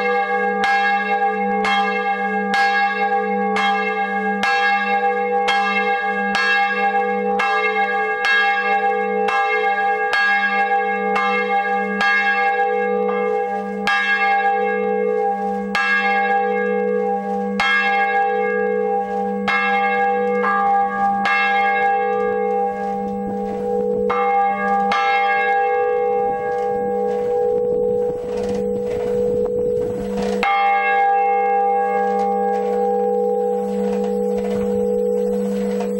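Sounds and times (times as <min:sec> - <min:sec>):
church bell ringing: 0:00.0 - 0:35.9.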